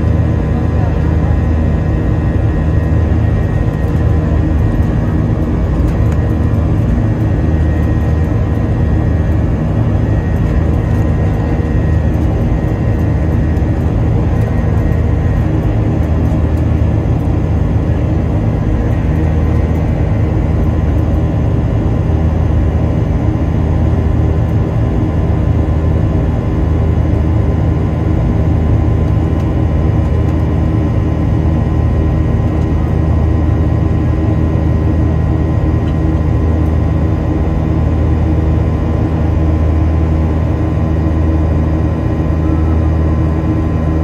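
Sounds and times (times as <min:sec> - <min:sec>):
jet engine low rumble: 0:00.0 - 0:44.0.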